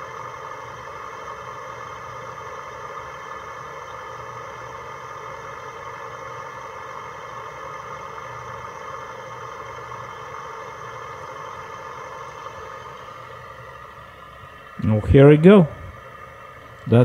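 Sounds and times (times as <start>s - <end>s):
refrigeration unit hum from speaker: 0.0s - 17.0s.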